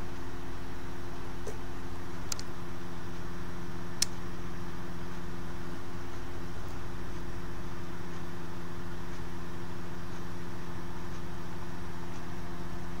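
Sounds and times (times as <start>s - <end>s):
mechanical hum with low rumble: 0.0s - 13.0s.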